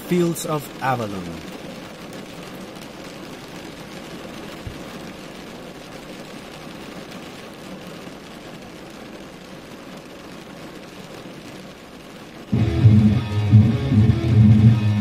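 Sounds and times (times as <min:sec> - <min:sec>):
rain on car roof: 0:00.0 - 0:15.0.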